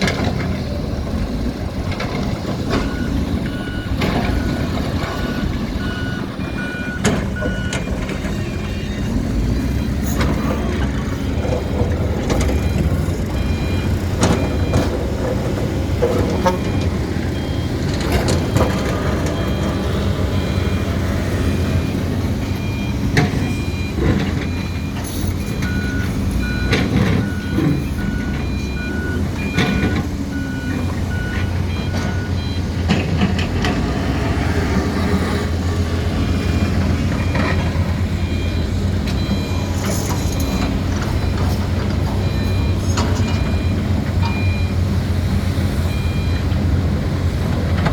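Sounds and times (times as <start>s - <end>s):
excavator diesel engine running: 0.0s - 47.9s
alarm beeping: 0.1s - 33.4s, 36.0s - 44.8s, 45.8s - 46.6s.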